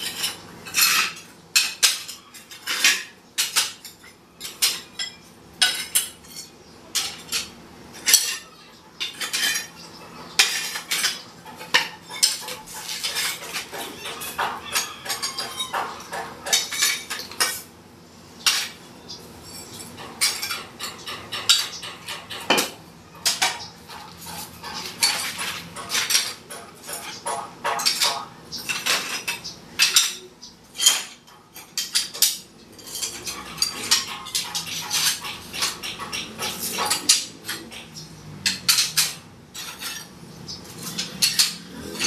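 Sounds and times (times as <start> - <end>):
hard tiles clinking and clattering: 0.0 - 17.7, 18.4 - 42.0.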